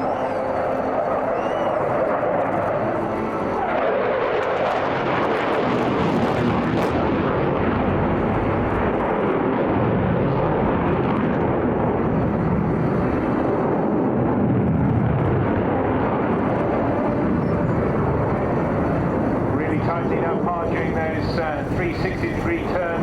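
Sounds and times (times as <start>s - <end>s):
loud jet noise: 0.0s - 23.0s.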